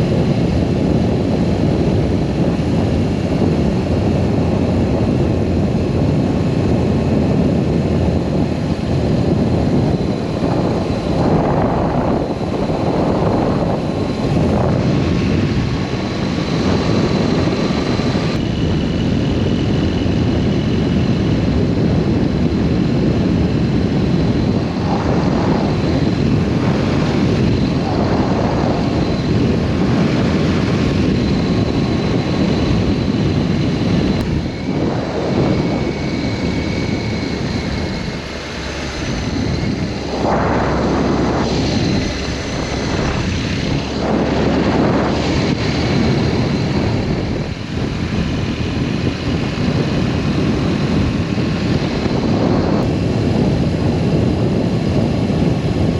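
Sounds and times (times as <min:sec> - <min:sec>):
motorcycle engine running: 0:00.0 - 0:52.9
wind noise: 0:00.0 - 0:55.9.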